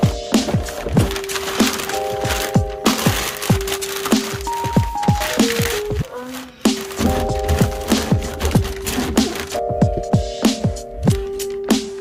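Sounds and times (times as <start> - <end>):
electronic music with kick drum: 0.0 - 6.1, 6.7 - 12.0.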